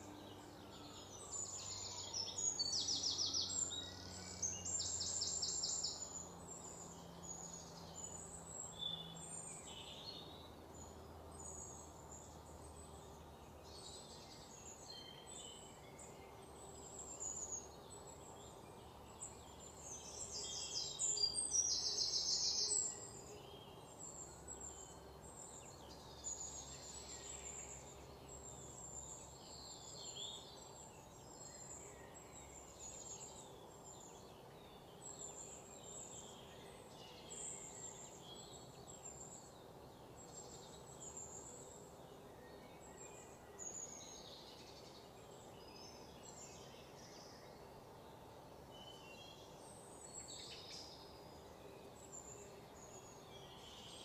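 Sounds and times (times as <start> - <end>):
faint birds chirping: 0.0 - 54.0.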